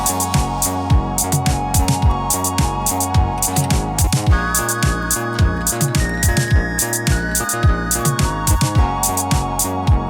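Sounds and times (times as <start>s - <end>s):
electronic funk music: 0.0s - 10.0s.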